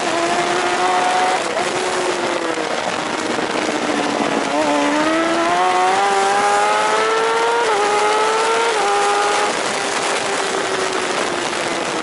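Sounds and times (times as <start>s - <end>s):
motorcycle engine accelerating: 0.0s - 12.0s
wind rushing over microphone: 0.0s - 12.0s.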